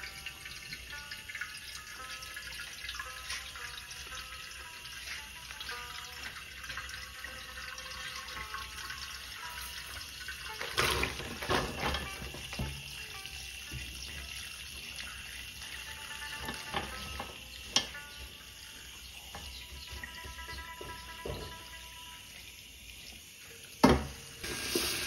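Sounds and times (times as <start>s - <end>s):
tap water running into basin: 0.0s - 25.0s.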